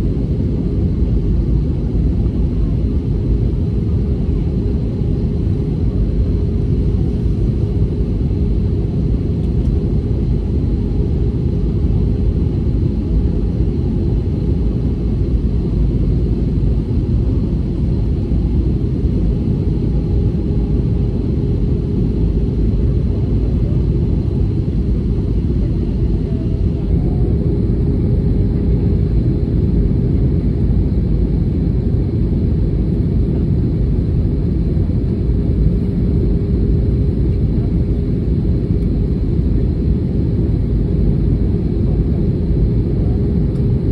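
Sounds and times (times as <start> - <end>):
constant hum: 0.0 - 43.9
jet cabin engine rumble: 0.0 - 43.9.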